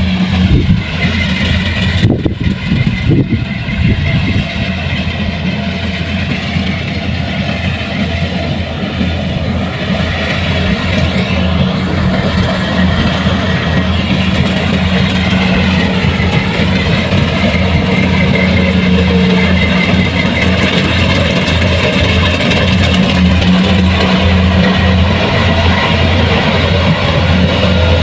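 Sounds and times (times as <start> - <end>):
combine harvester engine and threshing: 0.0 - 28.0.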